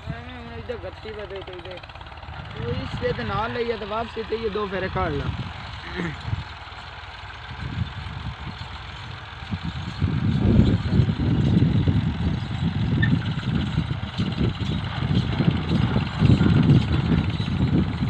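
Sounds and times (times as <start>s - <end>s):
distant tractor engine drone: 0.0s - 18.0s
low uneven rumble: 0.0s - 18.0s.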